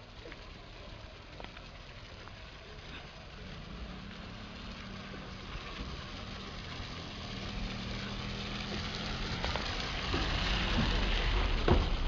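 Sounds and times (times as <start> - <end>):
car engine humming: 0.0 - 12.0
tyres hissing on wet street: 0.0 - 12.0.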